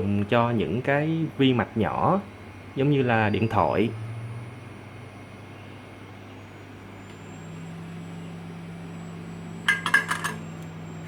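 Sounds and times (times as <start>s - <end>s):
hot air station hum: 0.0s - 11.0s.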